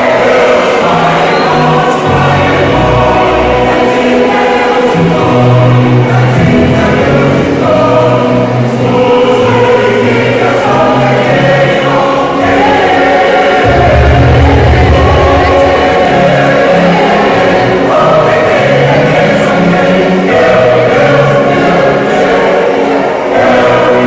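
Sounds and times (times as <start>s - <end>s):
choir singing in harmony: 0.0s - 24.0s.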